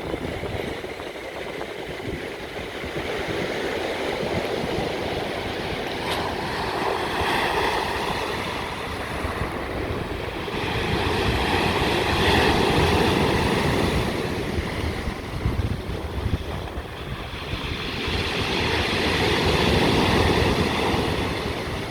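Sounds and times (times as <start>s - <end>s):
sea waves breaking on shore: 0.0s - 21.9s
wind buffeting microphone: 0.0s - 21.9s.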